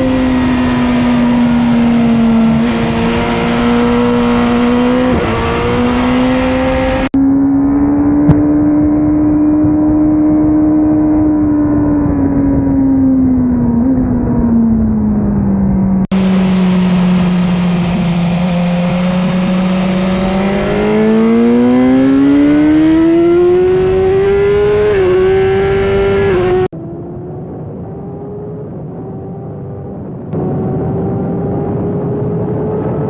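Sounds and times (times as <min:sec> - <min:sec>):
motorcycle engine accelerating: 0:00.0 - 0:33.0
wind rush: 0:00.0 - 0:33.0.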